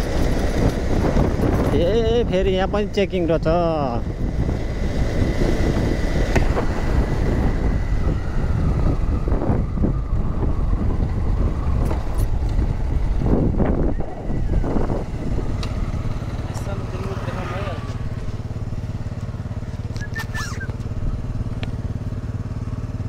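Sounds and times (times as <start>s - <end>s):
wind rumble on microphone: 0.0s - 22.4s
motorcycle engine running: 0.0s - 23.0s.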